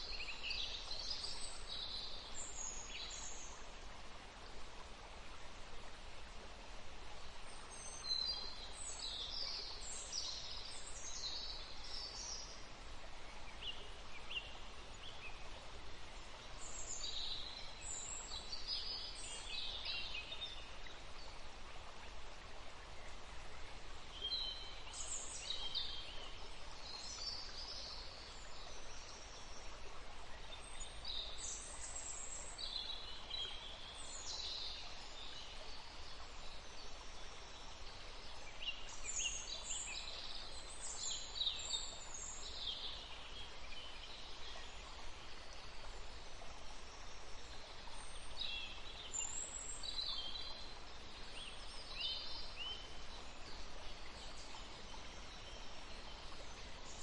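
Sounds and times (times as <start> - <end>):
forest ambience hiss: 0.0 - 57.0
songbirds chirping: 0.0 - 57.0.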